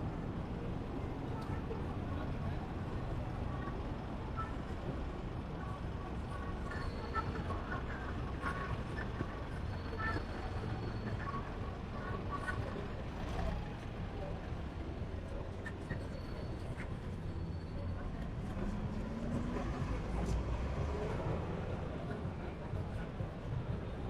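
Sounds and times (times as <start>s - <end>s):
background chatter: 0.0s - 24.0s.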